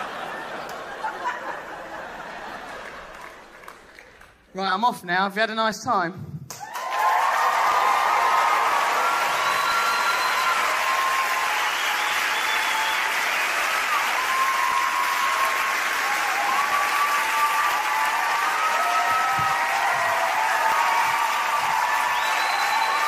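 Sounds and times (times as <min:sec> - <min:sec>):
audience applauding: 0:00.0 - 0:04.5, 0:06.6 - 0:23.0.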